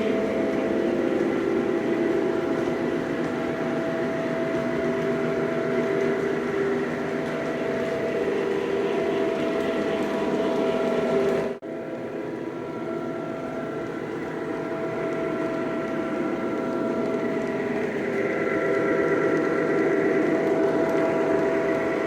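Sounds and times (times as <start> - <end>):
model train motor and wheels hum: 0.0 - 22.0
simulated diesel engine sound: 0.0 - 22.0.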